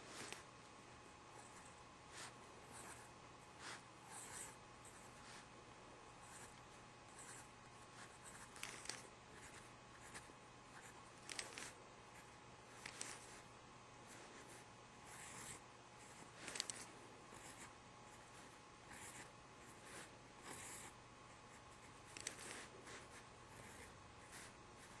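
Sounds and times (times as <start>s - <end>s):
faint hum: 0.0s - 25.0s
pen scratching on paper: 1.4s - 5.5s, 6.2s - 13.4s, 14.1s - 25.0s.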